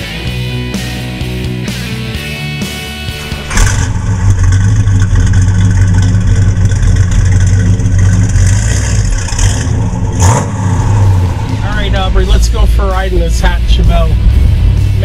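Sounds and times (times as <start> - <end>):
car engine running loud: 0.0 - 15.0
rock music: 0.0 - 15.0.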